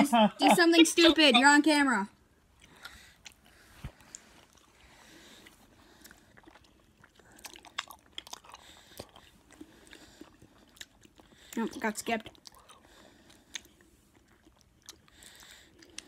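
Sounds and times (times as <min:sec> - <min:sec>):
low room noise: 0:00.0 - 0:16.0.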